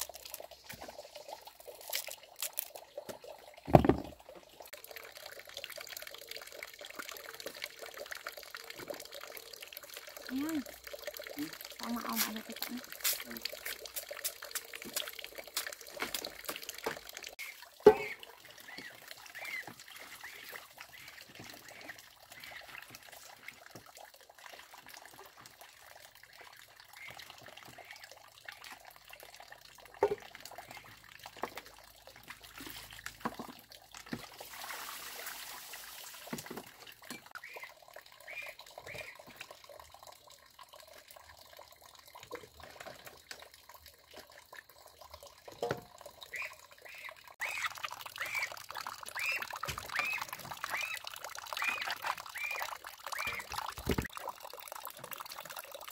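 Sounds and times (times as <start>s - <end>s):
water trickling and splashing: 0.0s - 55.9s.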